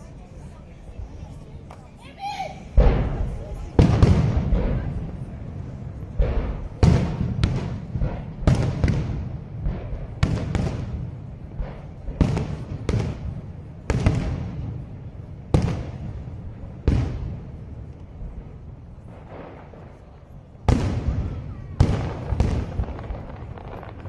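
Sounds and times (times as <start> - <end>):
fireworks bursting bangs: 2.3 - 24.0.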